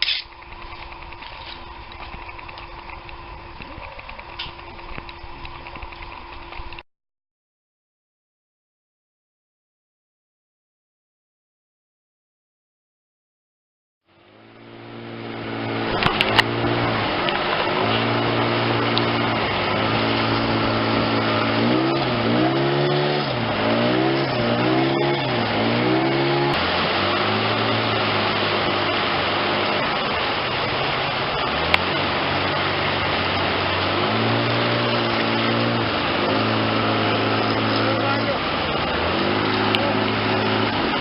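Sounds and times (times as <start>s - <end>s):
engine running: 0.0s - 6.8s, 14.1s - 41.0s.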